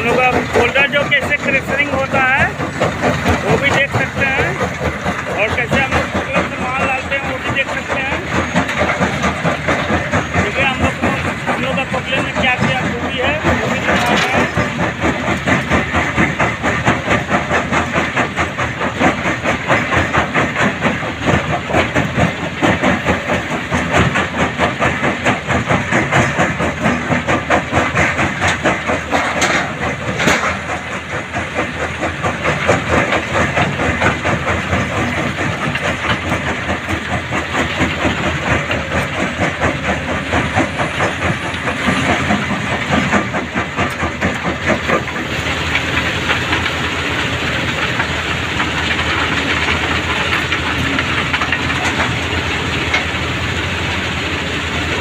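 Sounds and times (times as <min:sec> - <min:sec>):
stone crusher rattling: 0:00.0 - 0:53.2.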